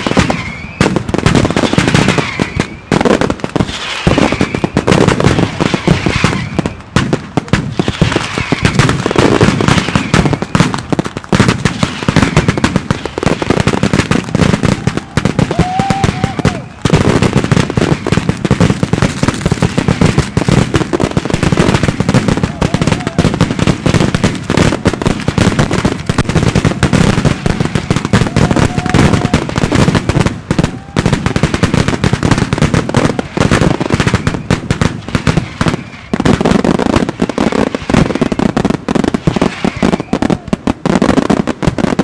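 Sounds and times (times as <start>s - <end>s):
aerial fireworks bursting: 0.0s - 42.0s
firecrackers banging rapidly: 0.0s - 42.0s.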